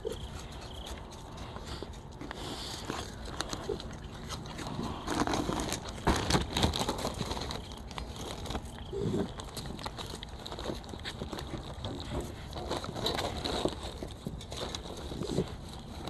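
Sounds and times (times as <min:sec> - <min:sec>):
animal crunching food: 0:00.0 - 0:16.0
plastic bag crinkling: 0:00.0 - 0:16.0.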